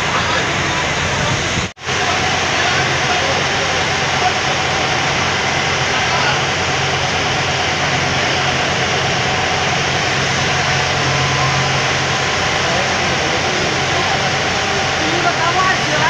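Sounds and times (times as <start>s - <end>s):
ferry engine humming: 0.0s - 16.0s
wind and water rushing: 0.0s - 16.0s.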